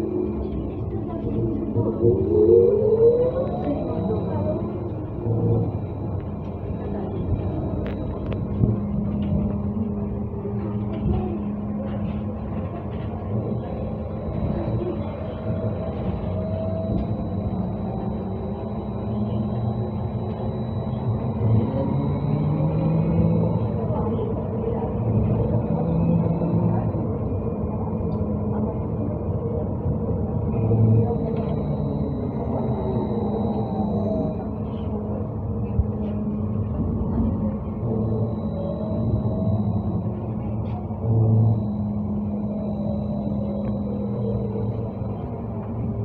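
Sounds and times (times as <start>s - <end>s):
trolleybus hum and road rumble: 0.0s - 46.0s.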